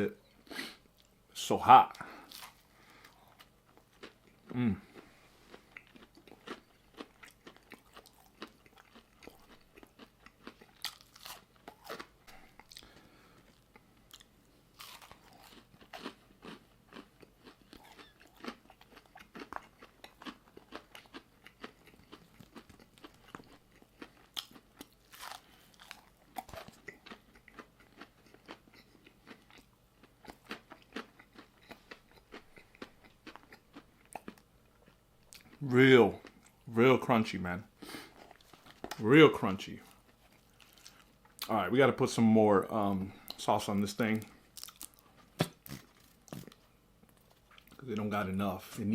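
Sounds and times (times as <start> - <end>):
person chewing crunchy food: 1.9 - 36.7, 37.8 - 39.0, 39.8 - 41.5, 44.1 - 47.8.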